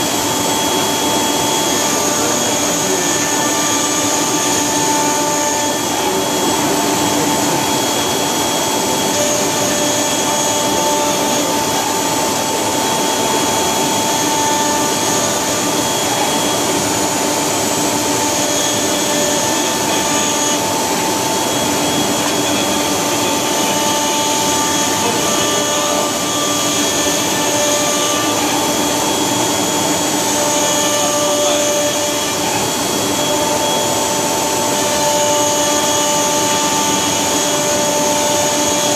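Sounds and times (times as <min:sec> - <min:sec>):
loud mechanical whir: 0:00.0 - 0:38.9.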